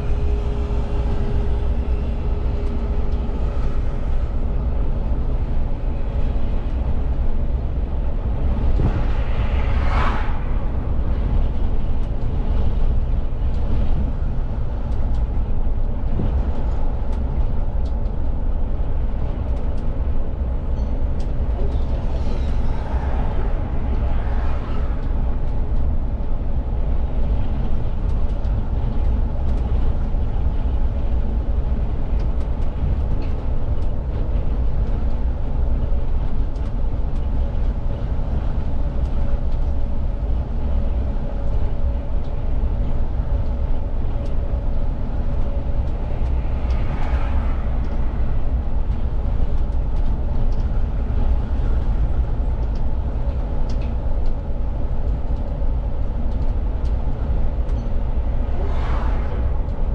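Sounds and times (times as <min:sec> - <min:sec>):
bus drivetrain and road rumble: 0:00.0 - 0:59.9.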